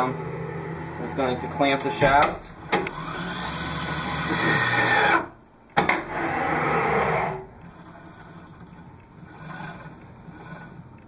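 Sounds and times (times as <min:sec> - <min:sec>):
electric motor whine: 0:00.0 - 0:01.9, 0:02.6 - 0:05.3, 0:06.0 - 0:10.9.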